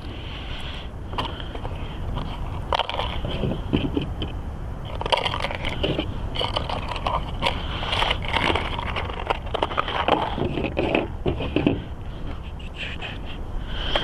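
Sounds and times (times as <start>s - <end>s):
rubber tire scraping on rim: 0.0s - 14.0s.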